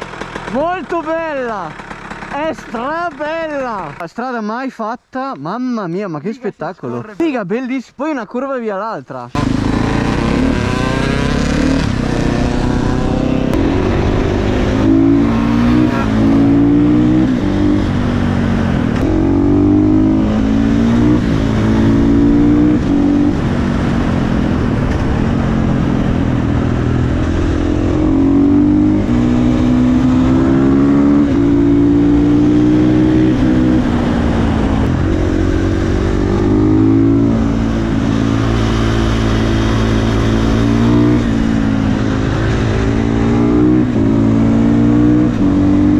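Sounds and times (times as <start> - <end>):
motorcycle engine accelerating: 0.0 - 4.0, 9.4 - 45.9.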